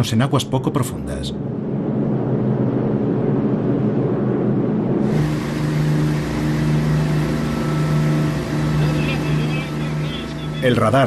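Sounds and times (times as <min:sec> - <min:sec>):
engine drone: 0:00.0 - 0:11.0
muffled rumble: 0:00.0 - 0:11.0.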